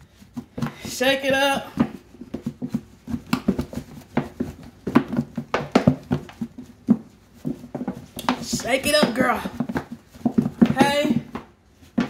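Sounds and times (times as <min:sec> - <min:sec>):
meat knocking in plastic container: 0:01.7 - 0:12.0.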